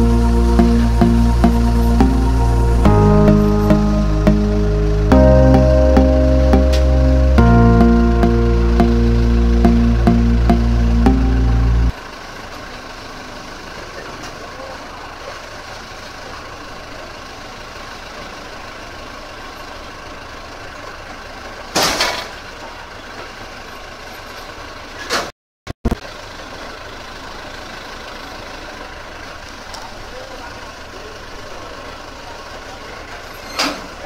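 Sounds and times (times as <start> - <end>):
diesel engine idling: 0.0 - 21.7, 26.1 - 33.3.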